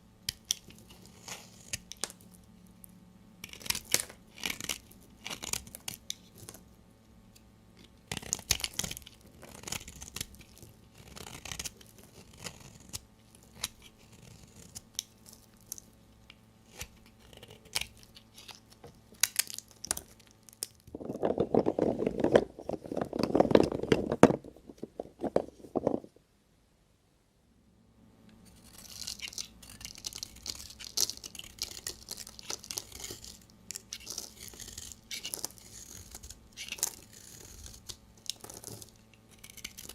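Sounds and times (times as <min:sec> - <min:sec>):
blade cutting soap: 0:00.2 - 0:02.2, 0:03.4 - 0:06.6, 0:07.8 - 0:24.4, 0:28.4 - 0:39.9.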